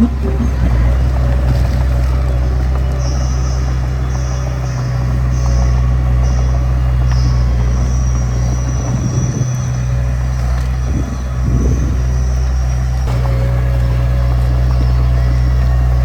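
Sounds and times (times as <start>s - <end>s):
diesel engine droning: 0.0s - 16.0s
irregular low rumbling: 0.0s - 16.0s.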